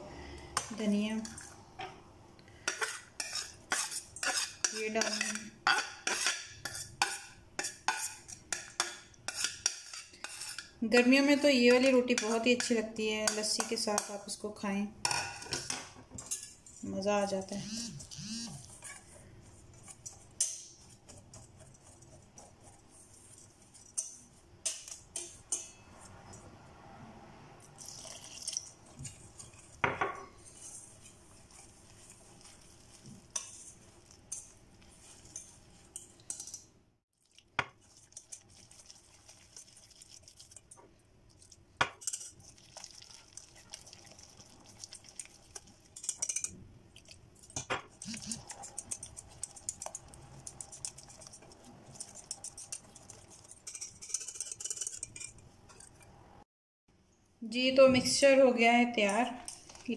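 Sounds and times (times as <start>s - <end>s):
whisk scraping in metal bowl: 2.6s - 14.2s, 15.4s - 26.4s, 27.8s - 36.6s, 37.6s - 40.8s, 41.9s - 56.1s.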